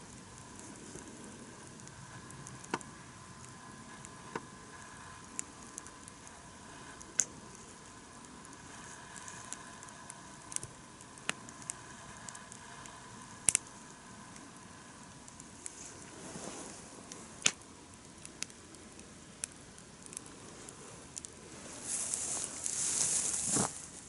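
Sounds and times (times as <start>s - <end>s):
campfire crackling and popping: 0.0s - 24.0s
faint steady hiss: 0.0s - 24.0s.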